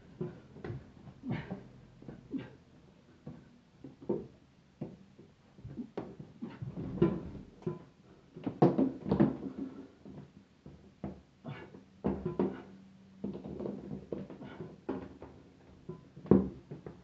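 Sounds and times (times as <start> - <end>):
irregular knocks and clunks: 3.2 - 17.0.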